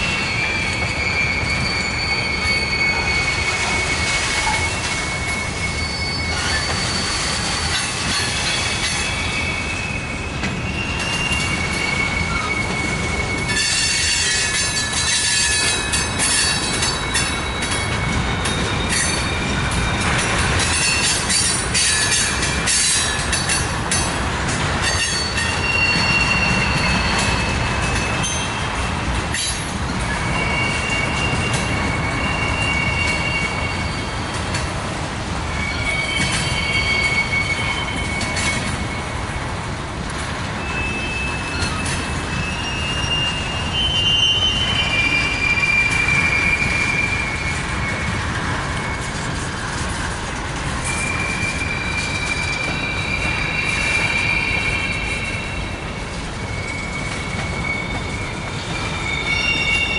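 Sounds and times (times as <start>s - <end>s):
high-pitched wheel squeal: 0.0s - 23.5s, 24.8s - 34.4s, 35.5s - 39.1s, 40.6s - 50.0s, 50.8s - 59.9s
train wheels rumbling on rail: 0.0s - 59.9s.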